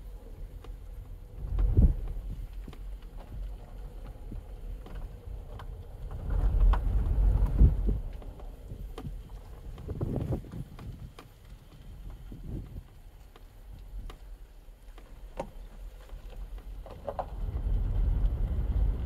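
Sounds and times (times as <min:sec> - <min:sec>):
car rumbling slowly: 0:00.0 - 0:19.0
light clicks and ticks: 0:00.0 - 0:19.0
wind buffeting microphone: 0:00.0 - 0:19.0.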